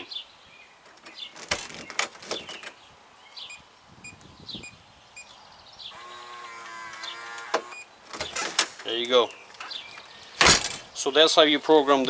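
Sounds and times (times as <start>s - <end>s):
bird chirping: 0.0s - 11.1s.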